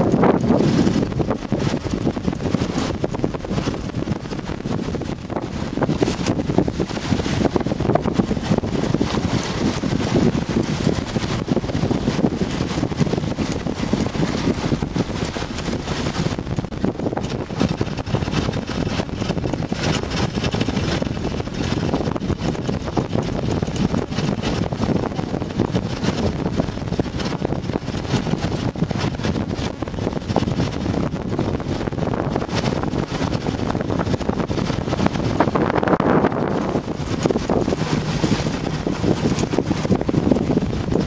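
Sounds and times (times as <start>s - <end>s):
water rushing along hull: 0.0s - 41.0s
wind rumbling on microphone: 0.0s - 41.0s.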